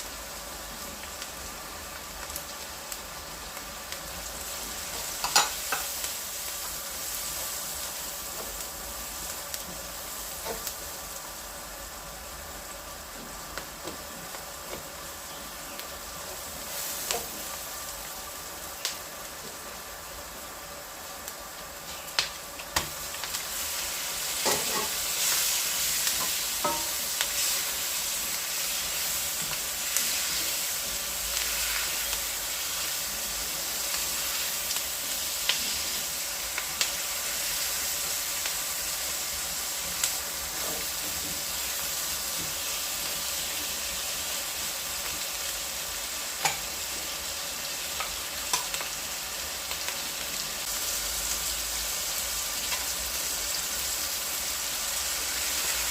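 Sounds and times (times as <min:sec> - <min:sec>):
food sizzling in a pan: 0:00.0 - 0:55.9.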